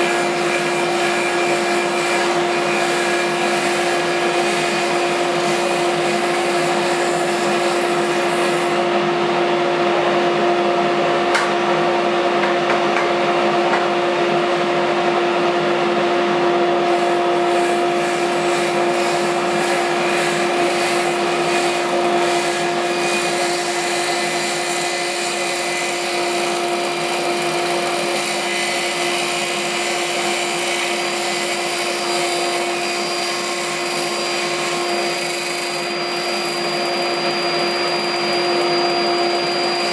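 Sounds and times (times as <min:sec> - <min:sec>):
table saw whining: 0:00.0 - 0:39.9.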